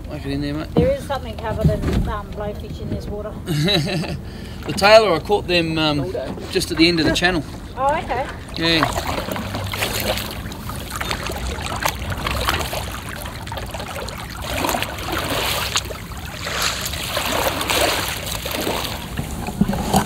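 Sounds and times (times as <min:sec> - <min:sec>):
water trickling and splashing: 0:00.0 - 0:20.0
kayak paddle pulling through water: 0:03.6 - 0:20.0.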